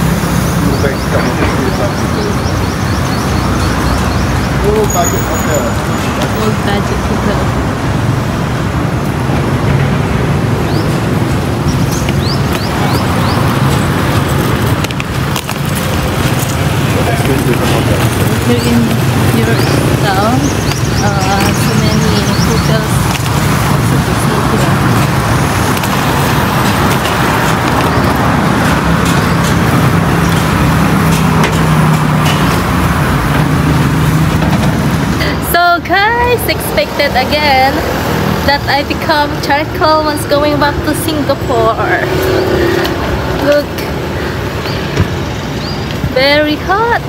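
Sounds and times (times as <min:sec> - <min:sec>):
cars driving past: 0:00.0 - 0:47.0
street traffic rumble: 0:00.0 - 0:47.0.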